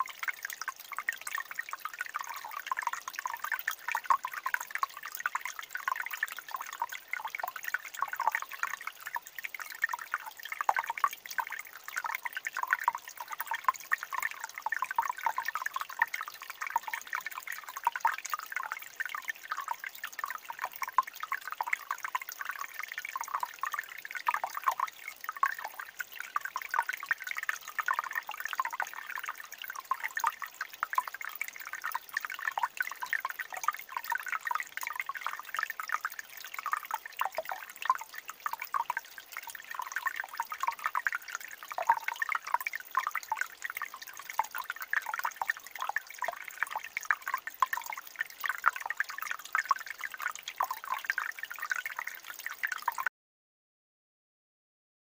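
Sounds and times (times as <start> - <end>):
stream trickling between rocks: 0.0 - 53.1.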